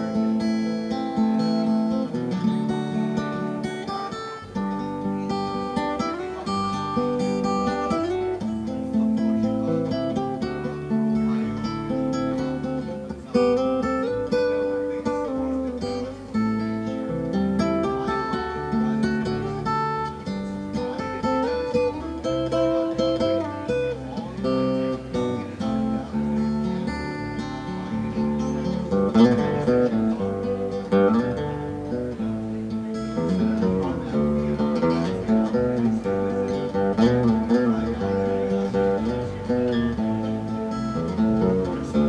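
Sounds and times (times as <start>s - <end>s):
acoustic guitar picked melody: 0.0s - 42.0s.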